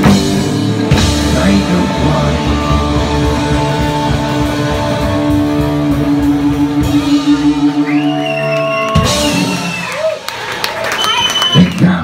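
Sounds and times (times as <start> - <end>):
electric guitar: 0.0 - 10.6
live rock band playing: 0.0 - 12.0.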